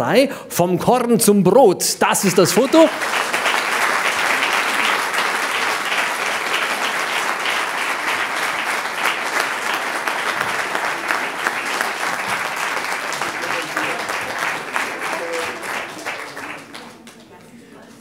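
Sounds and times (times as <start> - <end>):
audience applauding: 2.1 - 17.5.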